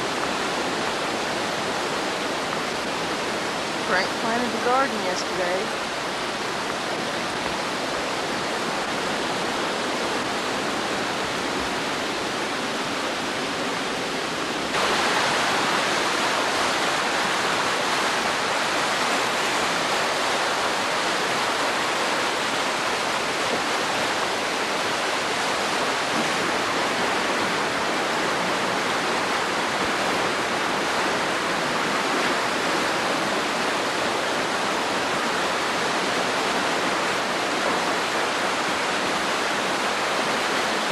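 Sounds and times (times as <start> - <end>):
flooding water rushing: 0.0 - 40.9.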